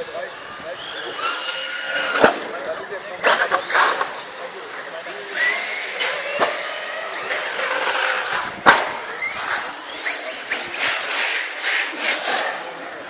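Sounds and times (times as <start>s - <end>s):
toy car motor whining: 0.0s - 13.0s.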